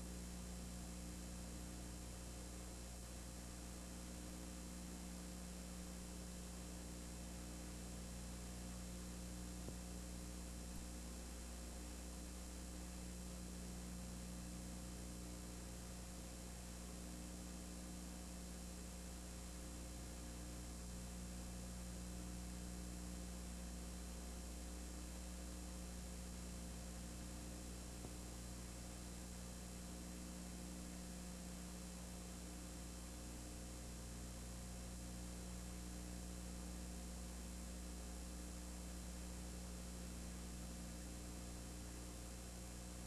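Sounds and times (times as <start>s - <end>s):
electrical hum: 0.0s - 43.0s
tape hiss: 0.0s - 43.0s.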